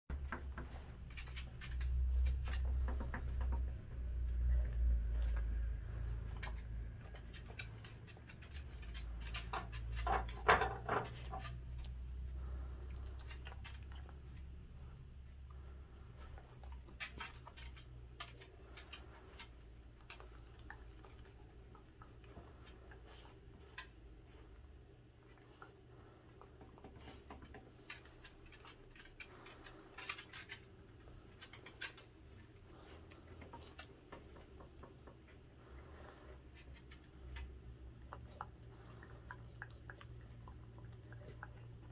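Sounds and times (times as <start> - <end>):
dog chewing and crunching food: 0.1 - 41.9.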